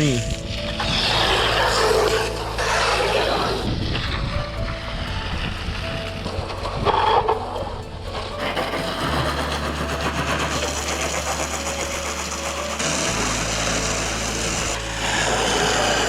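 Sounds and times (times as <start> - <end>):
motor running with low hum: 0.0 - 16.0.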